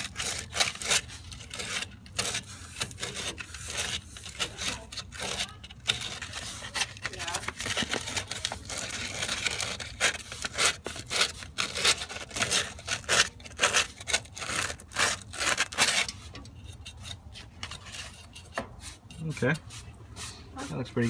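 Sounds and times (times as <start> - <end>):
sandpaper rubbing on metal: 0.0 - 21.0.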